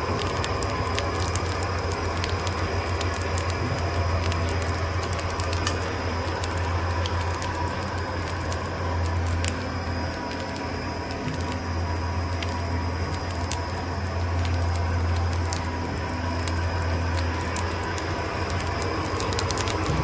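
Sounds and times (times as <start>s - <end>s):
machine humming and whining: 0.0s - 20.0s
sharp clicks and crackles: 0.0s - 20.0s.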